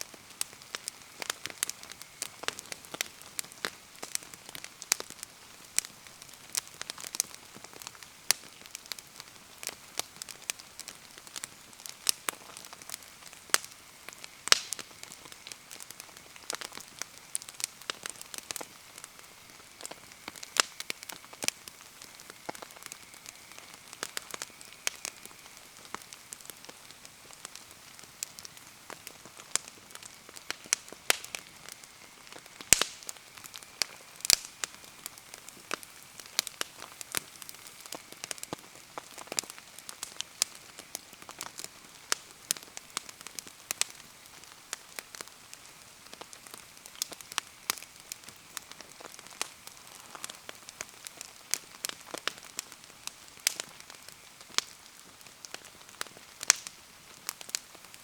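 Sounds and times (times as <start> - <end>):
bonfire crackling and popping: 0.0 - 58.0
hiss of rainfall: 0.0 - 58.0.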